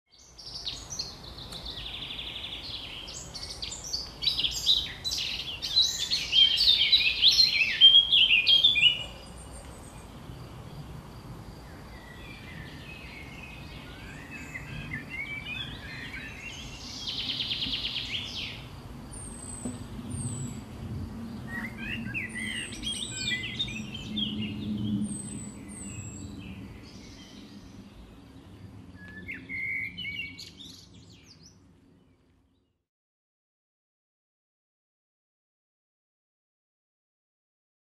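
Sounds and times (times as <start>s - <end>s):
songbirds singing and chirping: 0.1s - 32.8s.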